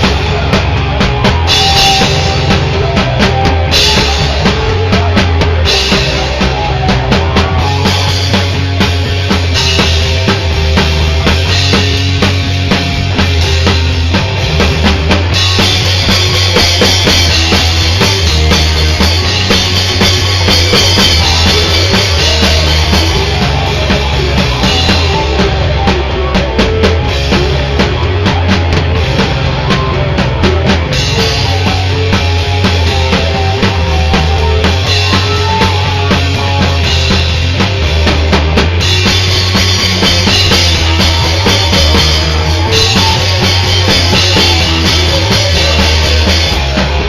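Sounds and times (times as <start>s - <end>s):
bass guitar: 0.0s - 47.0s
drum kit: 0.0s - 47.0s
rock band playing: 0.0s - 47.0s.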